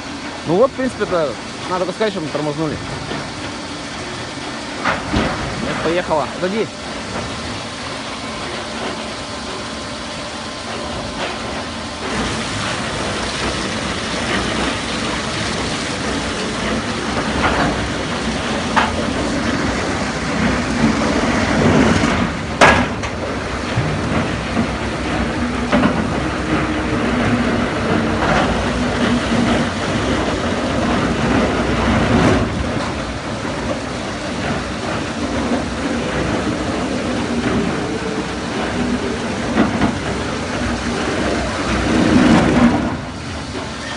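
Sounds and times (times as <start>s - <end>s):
debarking machine running: 0.0s - 43.9s.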